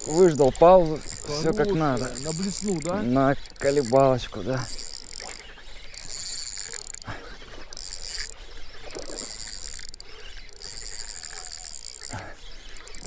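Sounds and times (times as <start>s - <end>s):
fishing reel gears whirring: 0.0s - 13.0s.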